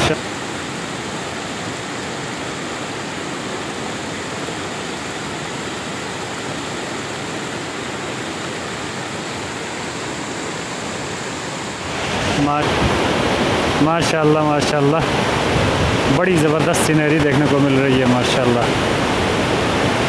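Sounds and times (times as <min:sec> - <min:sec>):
mountain water rushing: 0:00.0 - 0:20.0.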